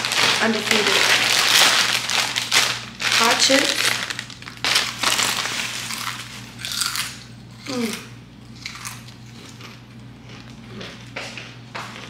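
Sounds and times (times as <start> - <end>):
chip bag crinkling: 0.0 - 11.2
crunching potato chip: 0.0 - 11.2.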